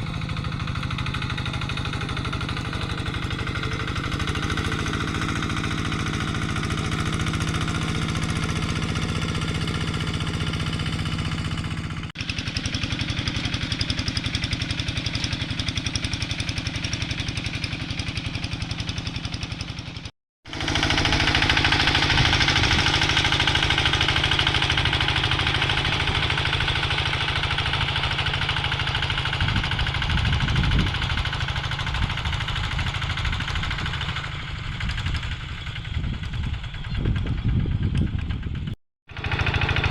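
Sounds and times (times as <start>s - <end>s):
diesel tractor engine knocking: 0.0s - 39.9s.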